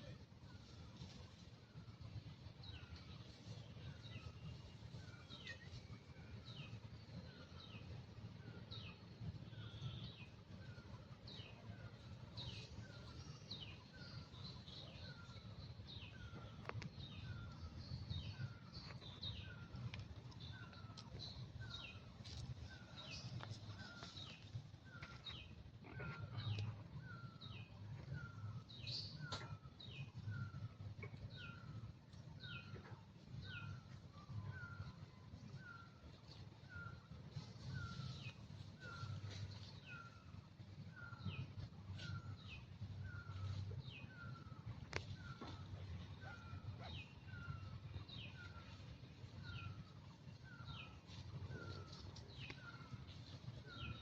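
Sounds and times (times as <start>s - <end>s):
low steady rumble: 0.0s - 54.0s.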